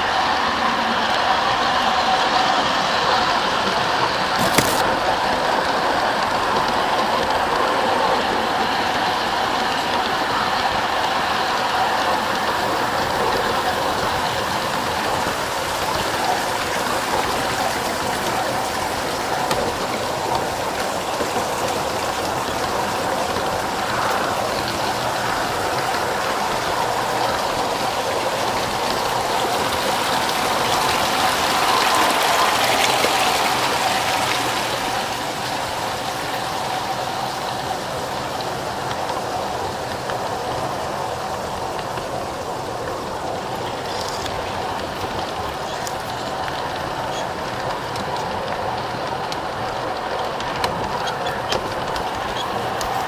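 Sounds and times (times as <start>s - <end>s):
model train wheels rattling on rails: 0.0s - 53.0s.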